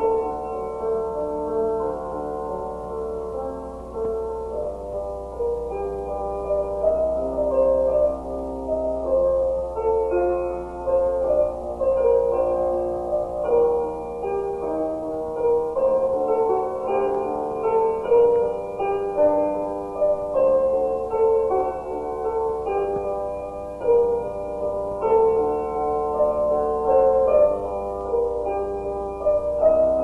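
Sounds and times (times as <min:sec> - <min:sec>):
piano melody: 0:00.0 - 0:30.0
steady low hum: 0:00.0 - 0:30.0.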